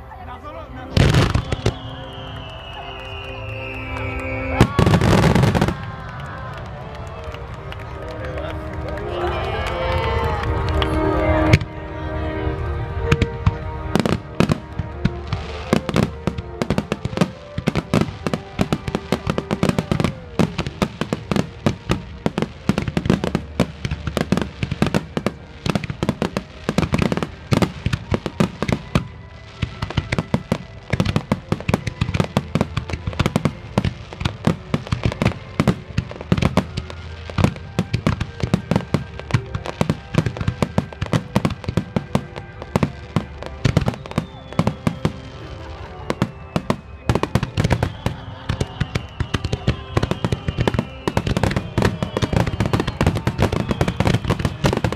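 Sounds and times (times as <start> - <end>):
music playing: 0.0 - 54.9
fireworks bangs and cracks: 0.9 - 11.8, 12.9 - 54.9.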